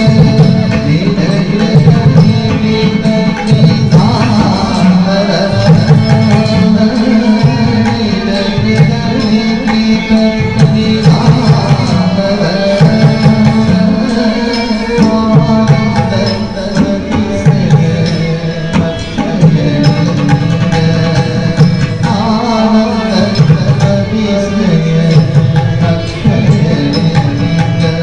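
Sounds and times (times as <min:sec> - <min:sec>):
hand drum percussion: 0:00.0 - 0:28.0
person singing: 0:00.0 - 0:28.0.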